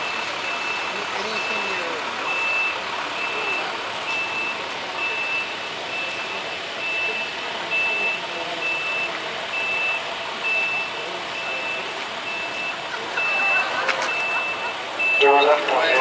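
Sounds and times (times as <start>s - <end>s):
steady background noise: 0.0s - 16.0s
truck backup alarm beeping: 0.0s - 16.0s.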